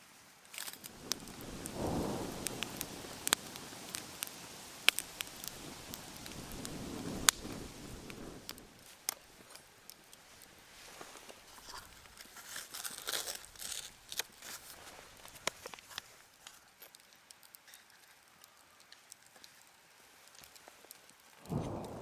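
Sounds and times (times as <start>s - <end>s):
campfire crackling and popping: 0.3s - 22.0s
crinkly rustling: 0.4s - 22.0s.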